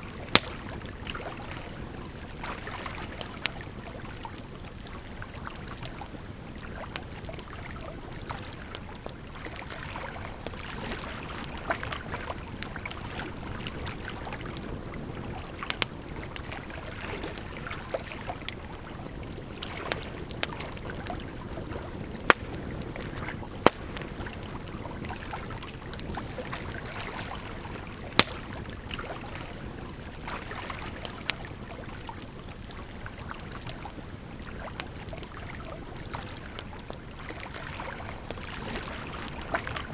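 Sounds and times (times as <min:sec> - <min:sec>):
firewood crackling: 0:00.0 - 0:09.3, 0:10.2 - 0:37.4.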